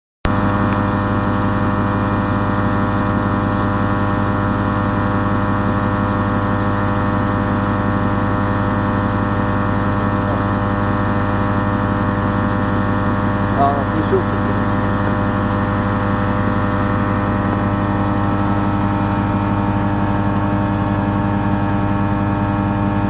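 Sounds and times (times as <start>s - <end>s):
car engine droning: 0.3s - 23.0s.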